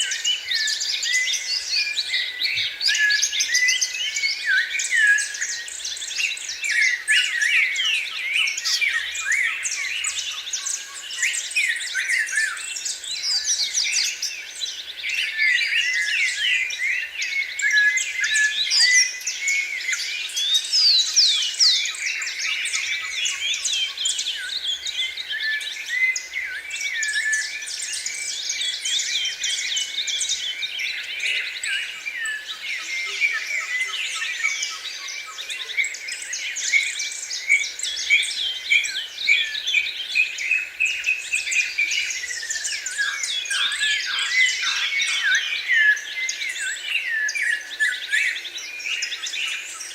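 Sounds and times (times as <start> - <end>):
small birds chirping and trilling: 0.0 - 49.9.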